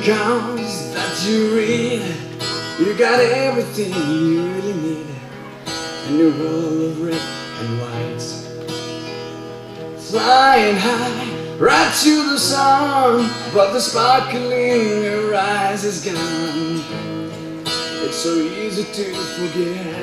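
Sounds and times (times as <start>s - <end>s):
person singing slow melody: 0.0s - 8.5s, 10.0s - 20.0s
acoustic guitar strummed and picked: 0.0s - 20.0s.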